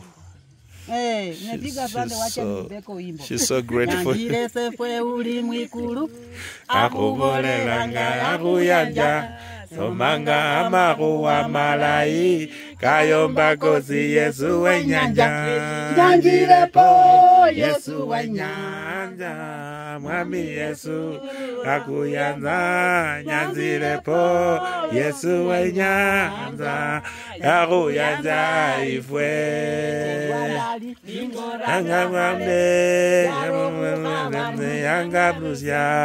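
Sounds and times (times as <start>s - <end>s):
women singing together: 0.9s - 36.0s.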